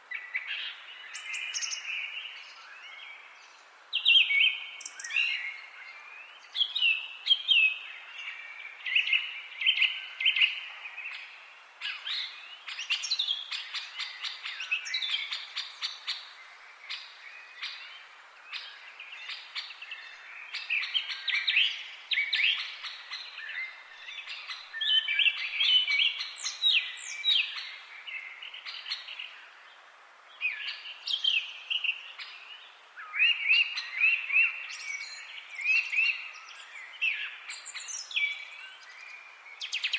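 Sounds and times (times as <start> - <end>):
faint background hiss: 0.0 - 39.9
songbirds singing: 0.0 - 39.9.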